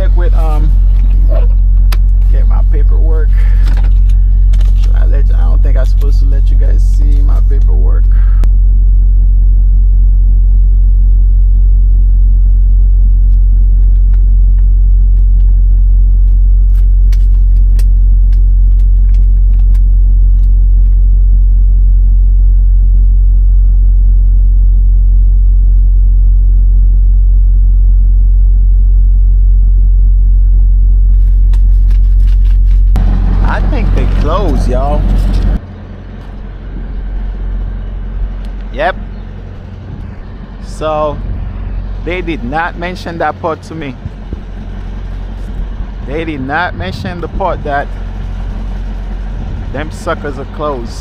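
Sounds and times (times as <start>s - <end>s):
diesel truck engine idling: 0.0s - 31.1s, 32.8s - 51.0s.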